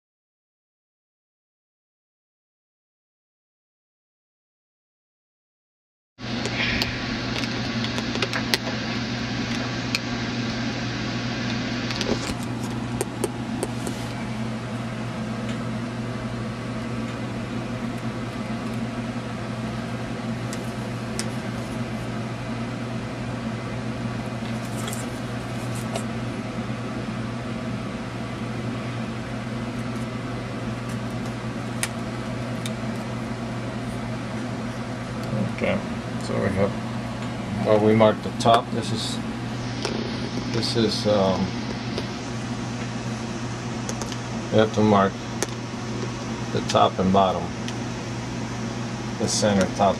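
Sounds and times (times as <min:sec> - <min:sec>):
steady machine hum: 0:06.2 - 0:49.9.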